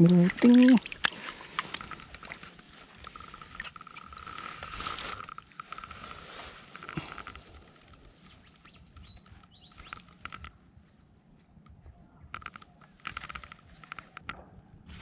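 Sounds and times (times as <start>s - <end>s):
small clicks and patters: 0.0s - 15.0s.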